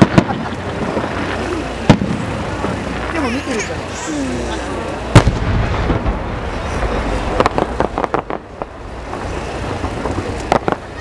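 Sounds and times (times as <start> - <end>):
sharp firework pops: 0.0 - 3.2, 5.1 - 11.0
firework bang: 0.0 - 3.4, 5.1 - 11.0
low steady rumble: 0.0 - 11.0.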